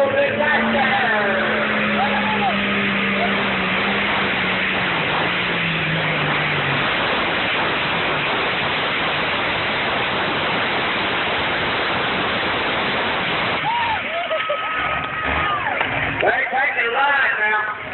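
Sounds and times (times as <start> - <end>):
engine roaring at full throttle: 0.0 - 17.9.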